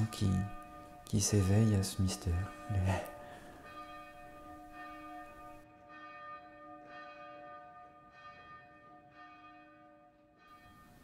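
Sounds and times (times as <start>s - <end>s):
faint bell tolling: 0.0s - 11.0s.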